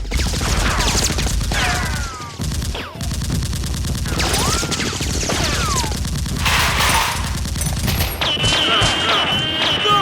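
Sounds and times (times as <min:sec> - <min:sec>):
rapid automatic gunfire: 0:00.0 - 0:09.6.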